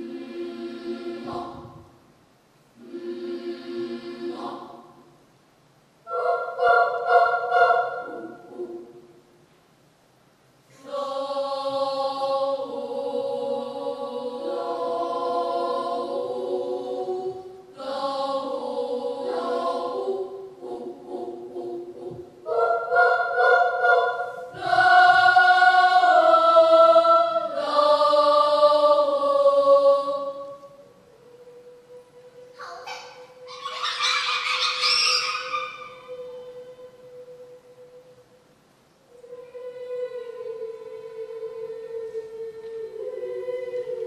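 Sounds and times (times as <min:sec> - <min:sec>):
children's choir singing in harmony: 0:00.0 - 0:02.0, 0:02.7 - 0:05.2, 0:06.0 - 0:09.4, 0:10.7 - 0:44.0.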